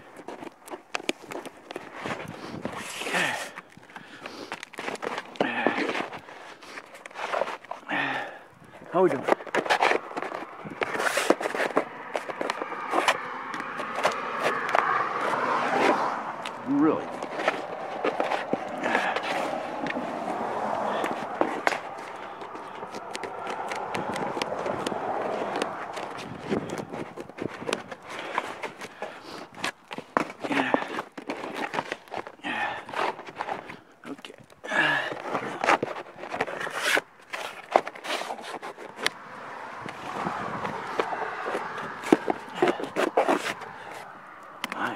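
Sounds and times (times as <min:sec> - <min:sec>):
roofing sheet rustling: 0:00.0 - 0:44.9
roofing sheet scraping: 0:00.0 - 0:44.9.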